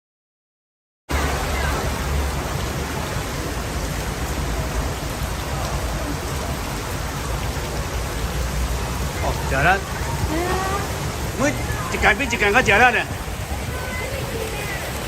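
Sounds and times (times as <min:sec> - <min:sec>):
rain hissing on road: 0:01.1 - 0:15.0.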